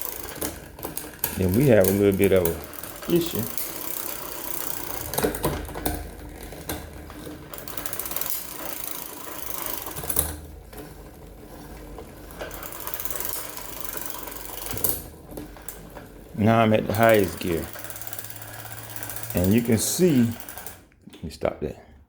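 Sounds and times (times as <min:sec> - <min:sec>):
bicycle chain ticking: 0:00.0 - 0:20.8.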